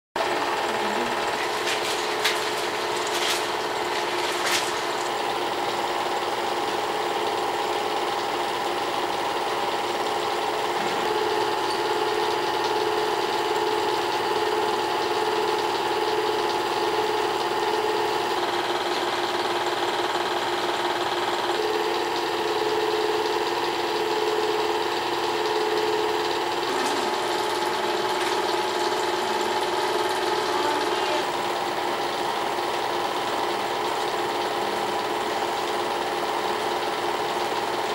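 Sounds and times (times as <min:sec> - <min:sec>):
film projector running: 0:00.2 - 0:37.9.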